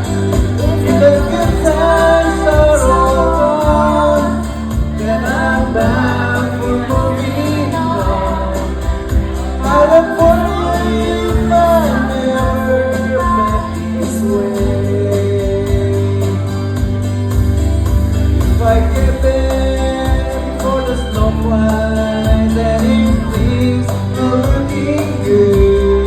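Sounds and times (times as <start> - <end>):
folk song playing: 0.0 - 26.0.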